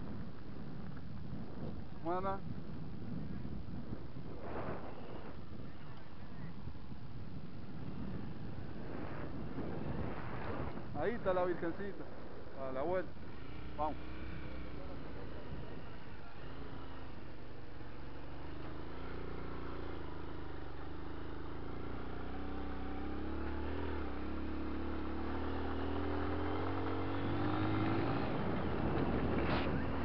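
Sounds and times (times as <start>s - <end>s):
dirt bike engine: 0.0s - 30.0s.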